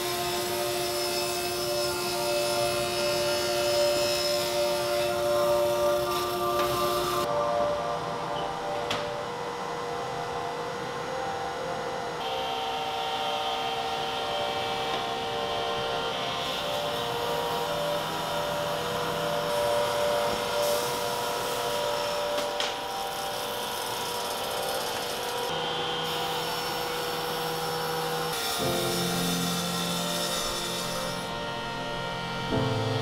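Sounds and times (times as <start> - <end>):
table saw cutting wood: 0.0 - 7.7, 8.4 - 33.0.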